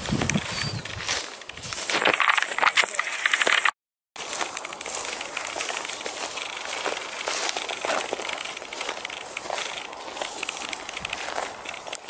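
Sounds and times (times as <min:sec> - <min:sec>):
footsteps through dry grass: 0:00.0 - 0:12.0.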